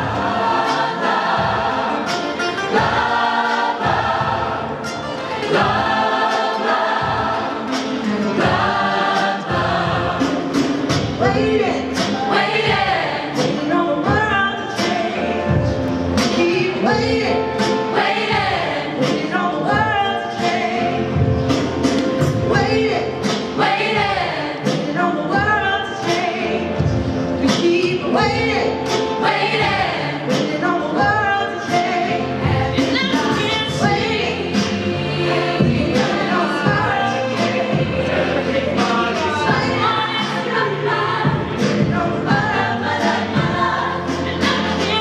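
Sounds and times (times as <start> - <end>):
acoustic guitar: 0.0 - 45.0
choir singing in harmony: 0.0 - 45.0
soloists singing into microphones: 0.0 - 45.0.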